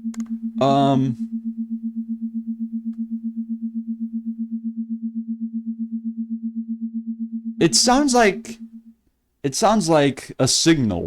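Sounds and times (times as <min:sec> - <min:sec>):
pulsing low electronic tone: 0:00.0 - 0:09.0.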